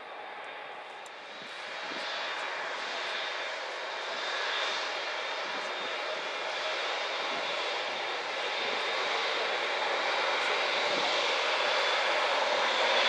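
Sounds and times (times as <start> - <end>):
jet engines rushing with whine: 0.0 - 13.0.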